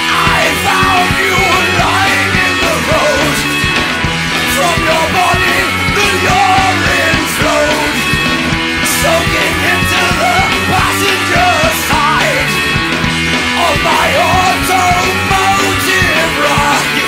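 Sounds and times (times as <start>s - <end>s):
man singing: 0.0s - 3.8s, 4.4s - 12.8s, 13.4s - 17.0s
punk rock band: 0.0s - 17.0s.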